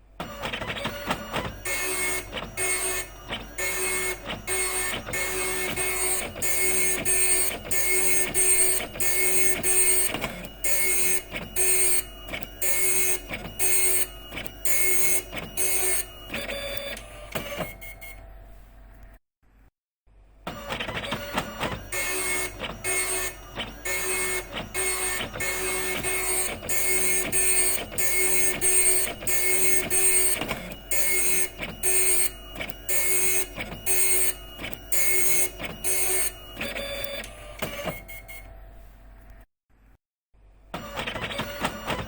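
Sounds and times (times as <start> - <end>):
printer paper feed whirring: 0.2 - 18.4, 20.5 - 39.2, 40.8 - 42.0.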